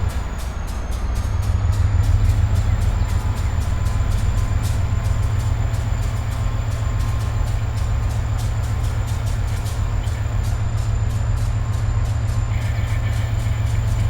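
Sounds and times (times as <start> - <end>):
train rumbling on rails: 0.0 - 14.0
wheels clicking on track: 0.0 - 14.0.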